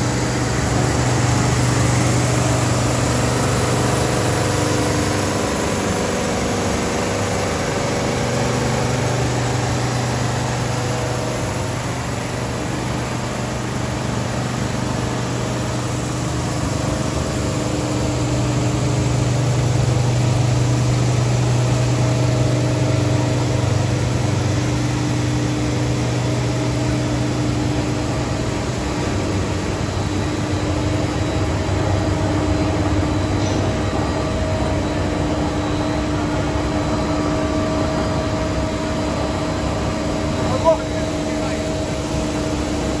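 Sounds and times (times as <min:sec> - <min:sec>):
machinery hum with low drone: 0:00.0 - 0:43.0.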